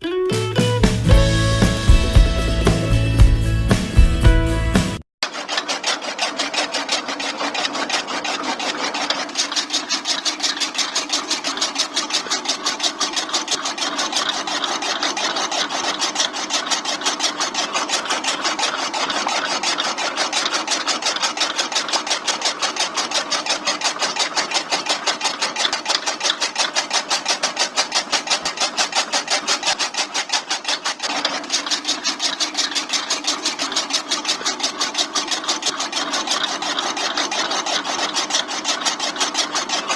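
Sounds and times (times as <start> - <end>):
blade chopping grass: 0.8 - 39.9
small motor running: 5.2 - 39.9.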